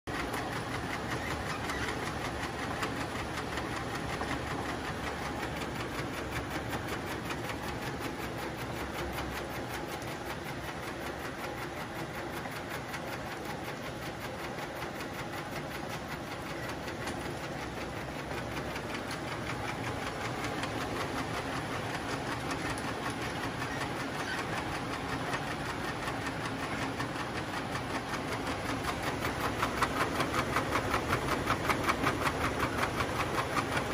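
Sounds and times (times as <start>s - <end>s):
plastic conveyor belt rattling: 0.1s - 33.9s.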